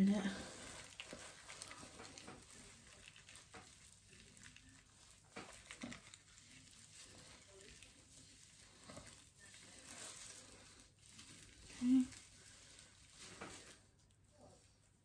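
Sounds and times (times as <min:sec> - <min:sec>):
wet squishing of hands in hair: 0:00.0 - 0:15.0
rustles: 0:00.1 - 0:15.0.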